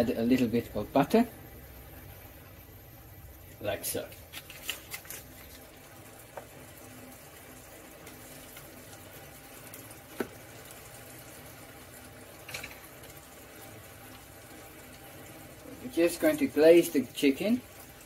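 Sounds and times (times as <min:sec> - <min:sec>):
chicken sizzling in oil: 0:03.2 - 0:18.0.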